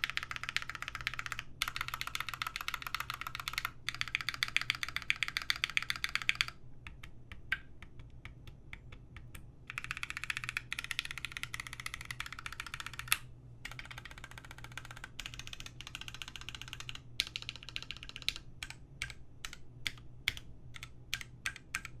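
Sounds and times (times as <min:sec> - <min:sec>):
mechanical keyboard typing: 0:00.0 - 0:07.1, 0:07.9 - 0:22.0.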